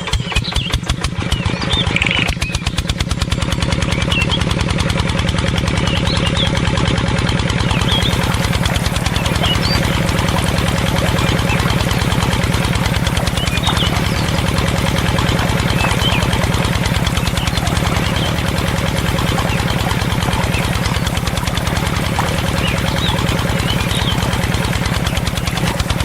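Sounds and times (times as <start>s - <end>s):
small engine chugging: 0.0s - 26.0s.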